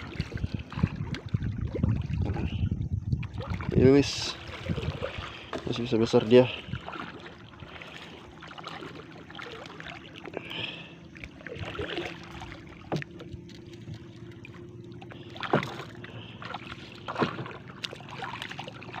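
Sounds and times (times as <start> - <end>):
faint steady hum: 0.0 - 19.0
water lapping hull: 0.0 - 19.0.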